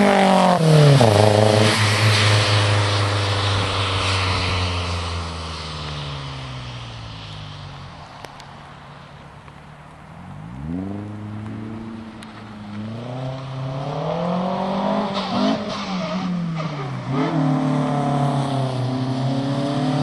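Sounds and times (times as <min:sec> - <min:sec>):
car engine revving: 0:00.0 - 0:07.0, 0:10.4 - 0:20.0.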